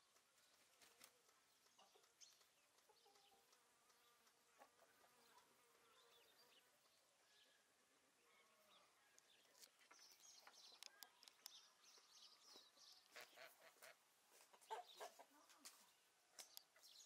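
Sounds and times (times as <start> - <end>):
chickens clucking: 0.0 - 7.1, 8.5 - 17.0
small birds chirping: 0.0 - 17.0.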